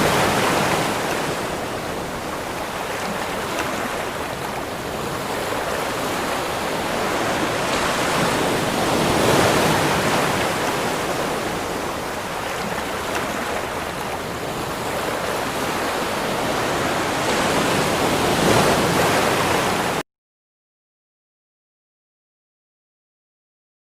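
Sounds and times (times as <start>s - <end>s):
ocean waves breaking: 0.0s - 20.0s.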